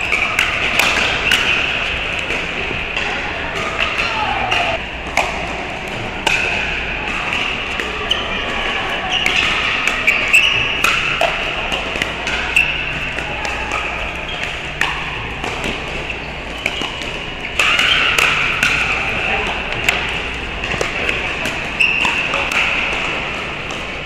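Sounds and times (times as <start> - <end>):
background chatter of players: 0.0 - 24.0.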